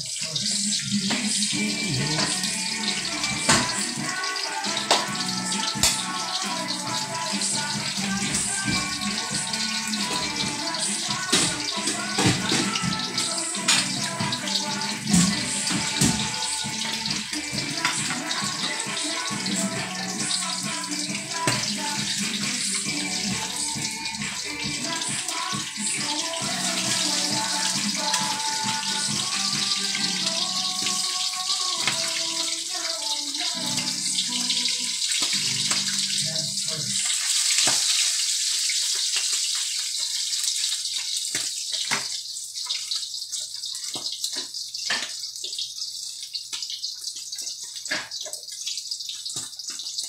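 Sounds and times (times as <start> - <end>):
hot oil sizzling in a wok: 0.0 - 50.0
oil crackling and popping: 0.0 - 50.0.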